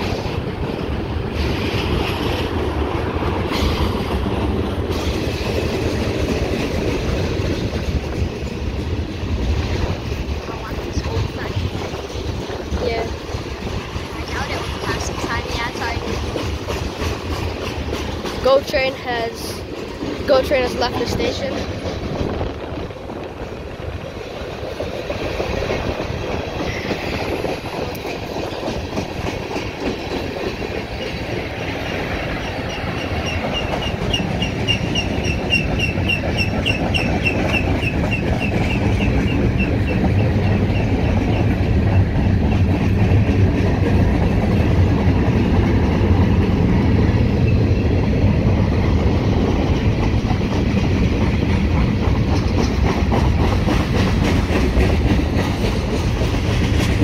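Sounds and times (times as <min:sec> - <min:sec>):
train wheels rumbling: 0:00.0 - 0:57.0
wheels clicking over rail joints: 0:00.0 - 0:57.0.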